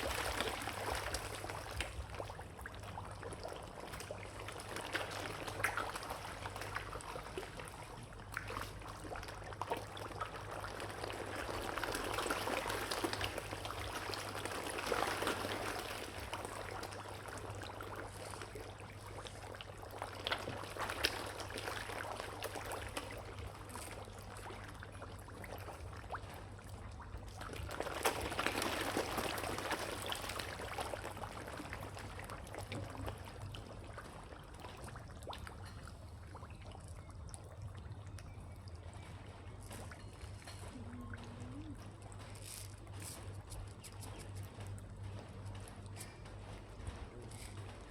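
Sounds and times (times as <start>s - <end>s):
water pouring and trickling: 0.0s - 47.9s.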